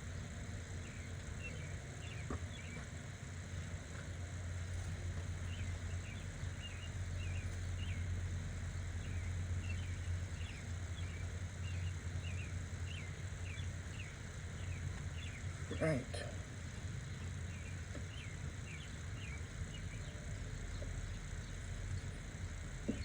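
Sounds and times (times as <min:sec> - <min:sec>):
steady low hum: 0:00.0 - 0:23.0
small birds chirping: 0:00.1 - 0:23.0.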